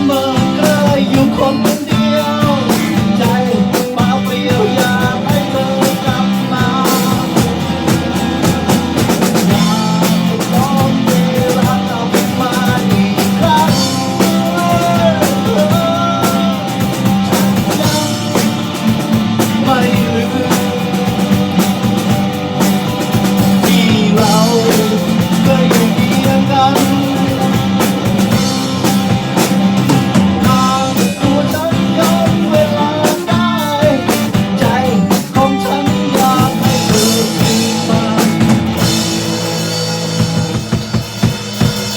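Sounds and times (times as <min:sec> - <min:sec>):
drums: 0:00.0 - 0:41.9
guitar: 0:00.0 - 0:41.9
rock song: 0:00.0 - 0:41.9.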